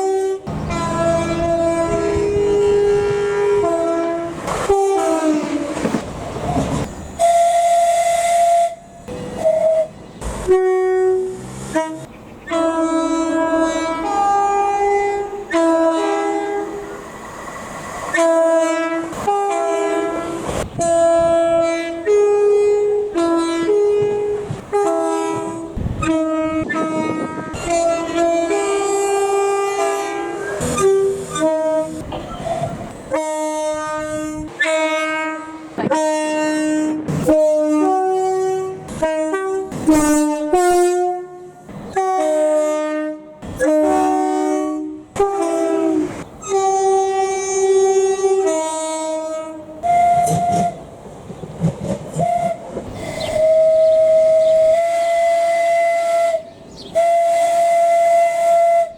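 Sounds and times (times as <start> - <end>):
train multi-tone horn tune: 0.0 - 17.0, 18.0 - 50.9, 52.1 - 58.9.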